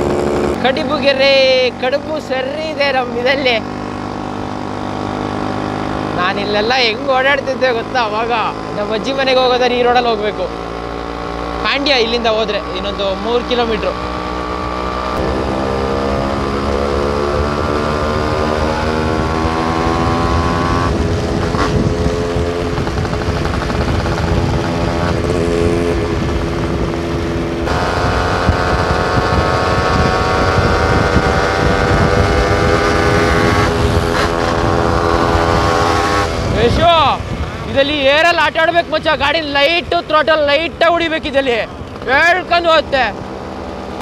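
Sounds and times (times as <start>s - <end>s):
two-stroke motorcycle engine: 0.0s - 44.0s.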